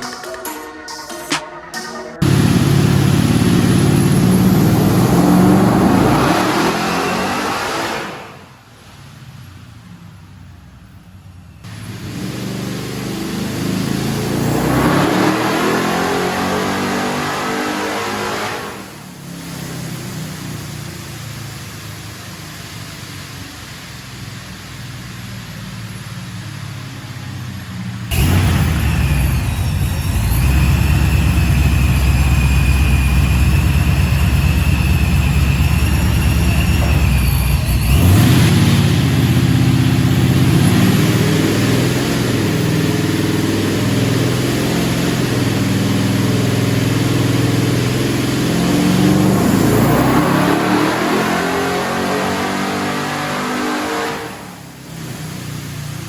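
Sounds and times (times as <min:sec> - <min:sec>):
engine running hard: 0:02.2 - 0:08.5, 0:09.3 - 0:56.0
supercharger whine: 0:02.2 - 0:56.0.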